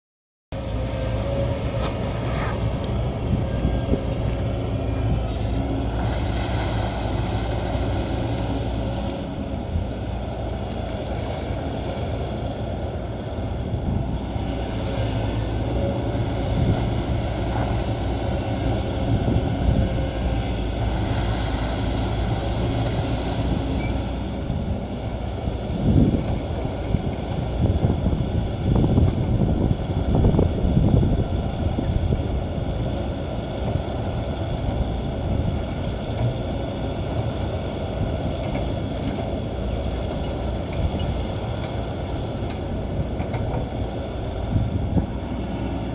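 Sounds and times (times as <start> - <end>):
excavator diesel engine running: 0.6 - 45.9.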